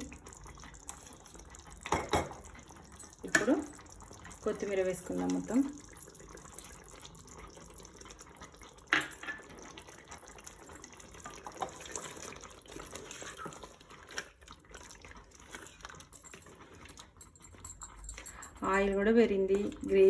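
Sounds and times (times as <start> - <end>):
curry bubbling in a pot: 0.0 - 17.3.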